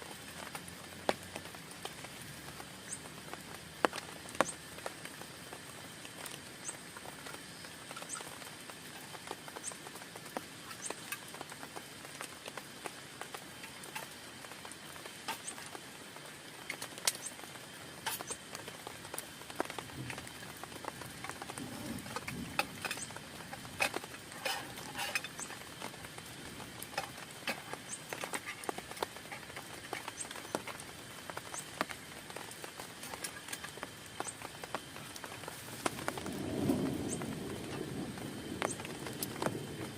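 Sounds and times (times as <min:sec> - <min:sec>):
rain hissing on a tent: 0:00.0 - 0:39.9
raindrops tapping on fabric: 0:00.0 - 0:39.9.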